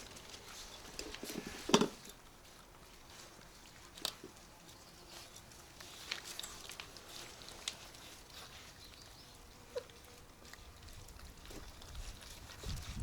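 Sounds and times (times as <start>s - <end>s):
puppies chomping food: 2.4s - 13.0s.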